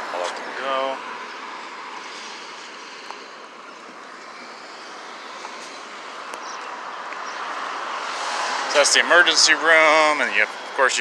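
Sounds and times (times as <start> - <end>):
cars passing on road: 0.0 - 11.0.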